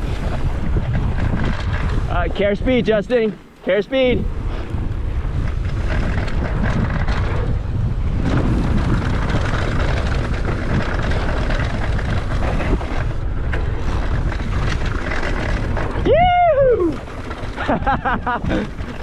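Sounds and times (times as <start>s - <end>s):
wind buffeting microphone: 0.0s - 3.4s, 4.0s - 19.0s
bike knocking and rattling: 0.0s - 3.6s, 4.4s - 19.0s
bike tyres rolling on dirt: 0.0s - 3.6s, 4.2s - 19.0s.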